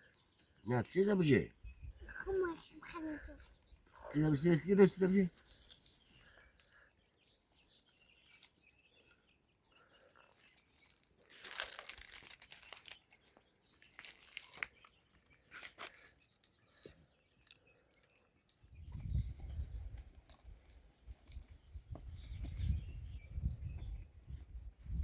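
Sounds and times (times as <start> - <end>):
faint crunching and crackling: 2.0 - 22.6.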